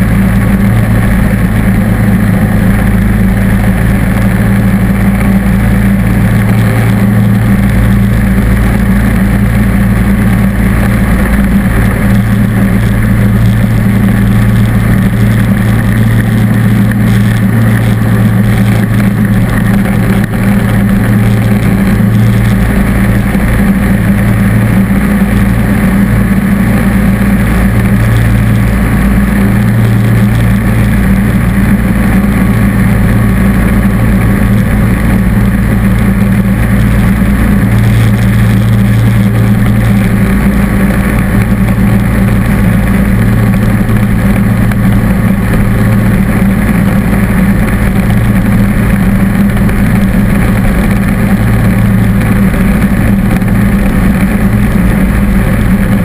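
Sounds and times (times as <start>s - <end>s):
lawn tractor engine running: 0.0s - 56.0s.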